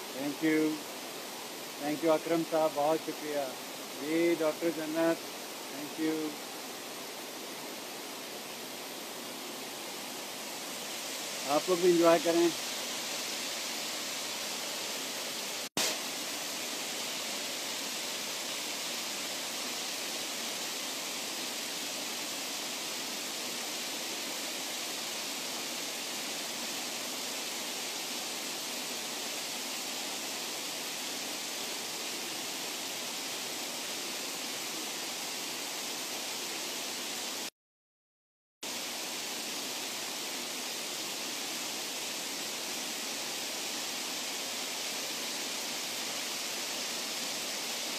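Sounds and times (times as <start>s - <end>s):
flowing water rushing: 0.0s - 37.5s, 38.6s - 47.9s.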